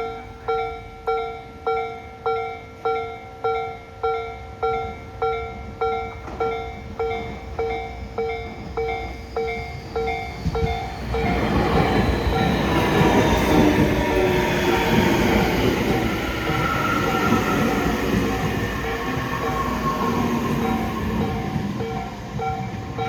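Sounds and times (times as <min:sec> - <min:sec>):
electric train rumbling: 0:02.6 - 0:23.0.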